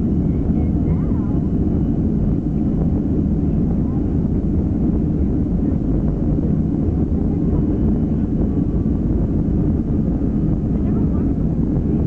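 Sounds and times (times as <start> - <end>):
jet engines low rumble in cabin: 0.0 - 12.0.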